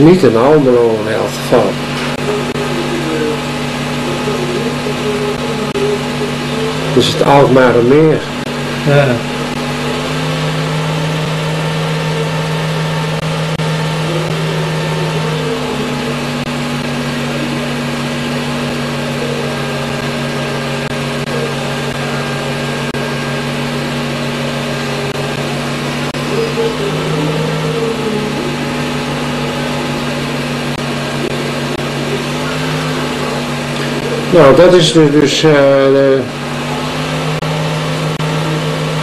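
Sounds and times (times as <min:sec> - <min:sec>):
film projector motor hum and whir: 0:00.0 - 0:39.0.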